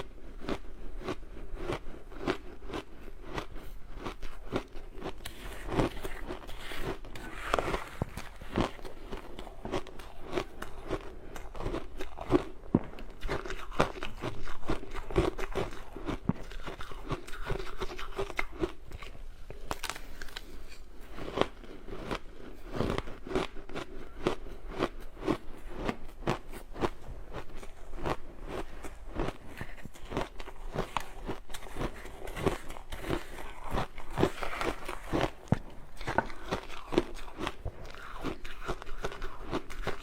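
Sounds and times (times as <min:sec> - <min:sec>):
teeth crunching ice: 0:00.0 - 0:40.0.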